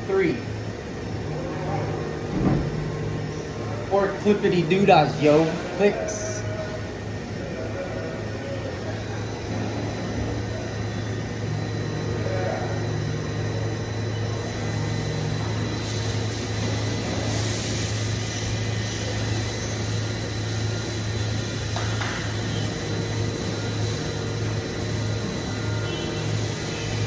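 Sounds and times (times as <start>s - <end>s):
machine shop equipment humming: 0.0s - 27.0s.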